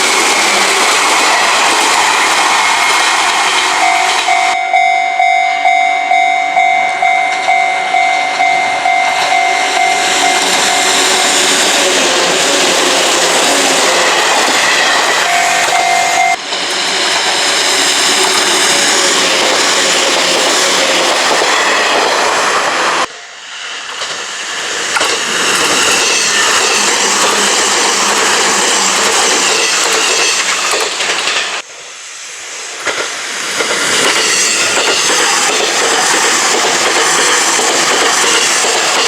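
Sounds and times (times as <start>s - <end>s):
electric train running past: 0.0s - 39.0s.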